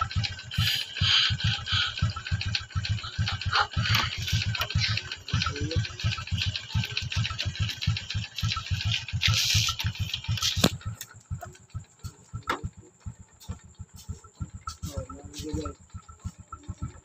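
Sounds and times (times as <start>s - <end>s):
motorcycle engine idling: 0.0s - 17.0s
rattly hiss: 0.0s - 17.0s.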